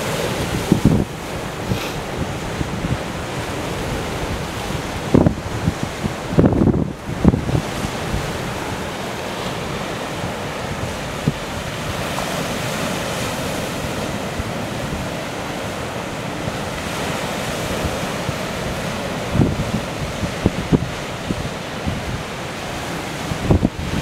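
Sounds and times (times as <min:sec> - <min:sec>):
sea wind: 0:00.0 - 0:24.0
surf breaking on rocks: 0:00.0 - 0:24.0
wind buffeting microphone: 0:00.0 - 0:24.0.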